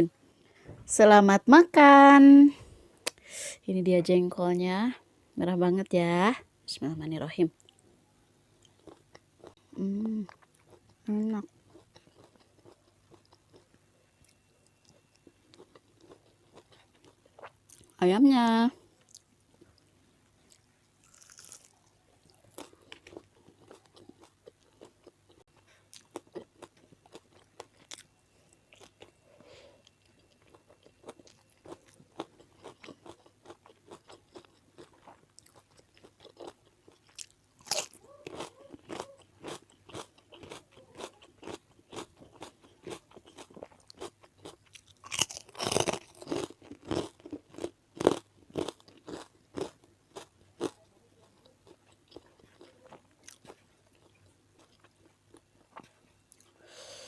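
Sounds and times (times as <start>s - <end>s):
person chewing crunchy food: 8.6s - 9.6s, 10.2s - 18.0s, 18.9s - 56.6s.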